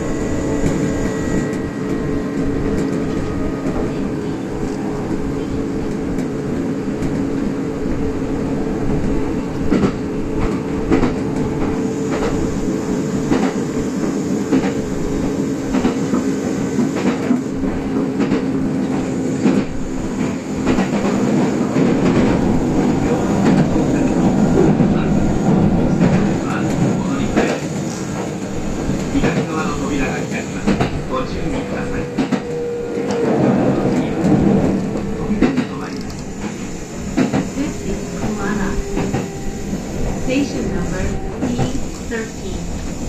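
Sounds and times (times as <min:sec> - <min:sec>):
electric train running hum: 0:00.0 - 0:43.0.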